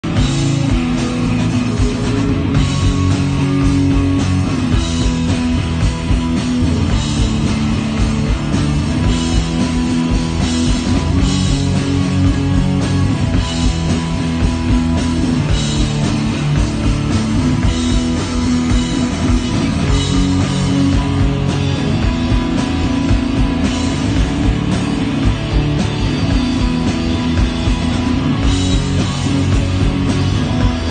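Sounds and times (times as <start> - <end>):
rock band playing live: 0.0 - 30.9.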